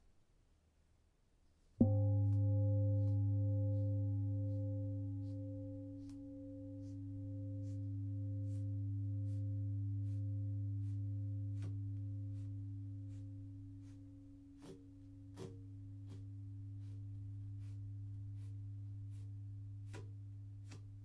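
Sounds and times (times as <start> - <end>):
low ringing tone: 1.8 - 20.7.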